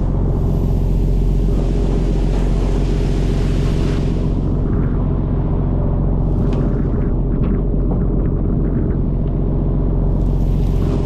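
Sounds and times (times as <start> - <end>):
boat engine droning: 0.0 - 11.0
sea spray washing along hull: 0.0 - 11.0.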